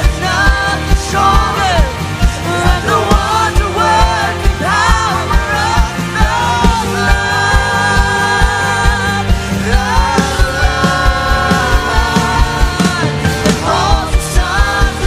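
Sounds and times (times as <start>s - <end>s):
people singing: 0.0s - 15.0s
worship band playing: 0.0s - 15.0s.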